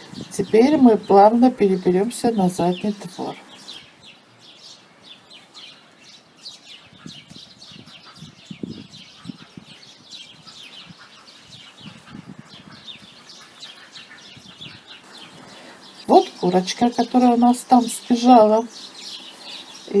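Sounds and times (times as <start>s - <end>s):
sparrows chirping: 0.0s - 20.0s.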